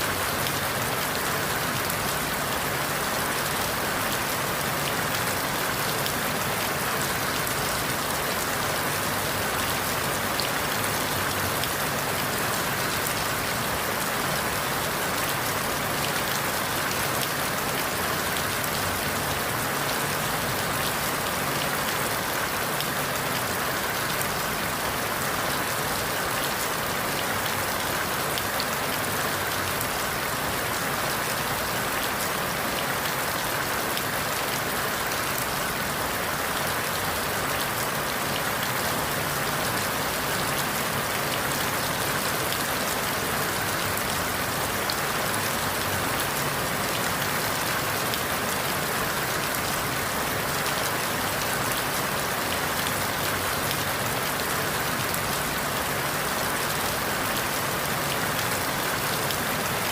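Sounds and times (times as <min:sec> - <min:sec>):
rain falling through leaves: 0:00.0 - 0:59.9.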